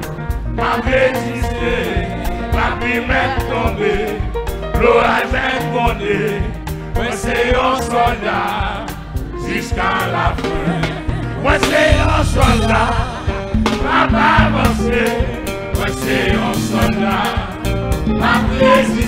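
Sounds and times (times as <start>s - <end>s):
conga drums: 0.0s - 19.0s
drum kit: 0.0s - 19.0s
people singing: 0.0s - 19.0s.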